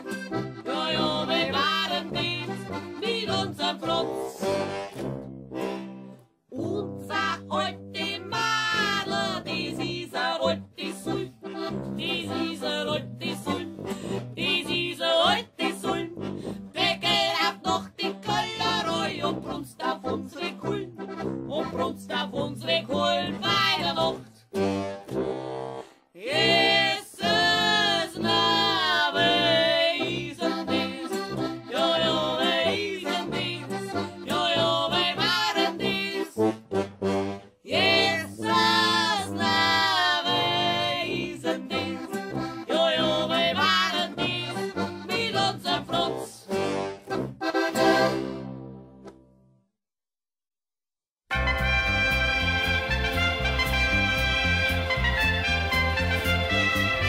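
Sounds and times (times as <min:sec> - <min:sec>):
accordion folk music on radio: 0:00.0 - 0:49.3, 0:51.3 - 0:57.0.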